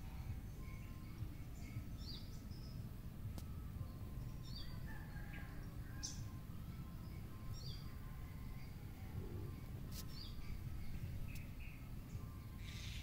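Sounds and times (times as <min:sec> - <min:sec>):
low background rumble: 0:00.0 - 0:13.0
songbirds chirping: 0:00.0 - 0:13.0.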